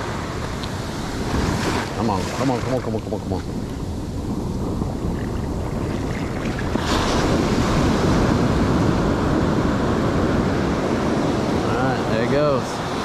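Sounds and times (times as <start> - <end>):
ocean surf washing up beach: 0.0 - 13.0.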